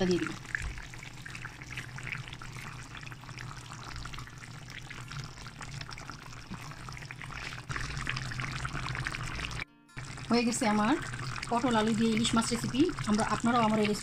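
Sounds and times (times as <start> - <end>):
curry bubbling in a pan: 0.0 - 14.0.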